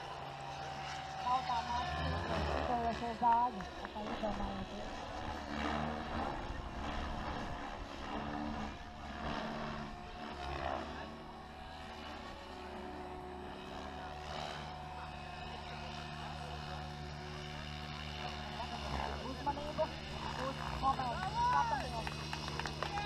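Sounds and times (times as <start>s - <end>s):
model aircraft propeller hum: 0.0s - 23.0s.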